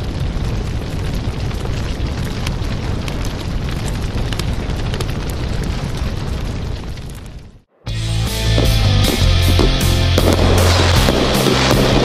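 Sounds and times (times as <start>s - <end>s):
fire roaring and crackling: 0.0s - 7.7s, 9.0s - 12.0s.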